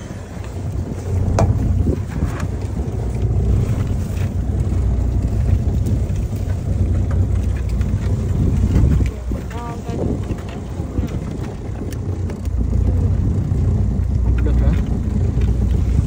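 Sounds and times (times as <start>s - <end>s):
faint clicks: 0.0s - 15.8s
wind buffeting microphone: 0.0s - 16.0s.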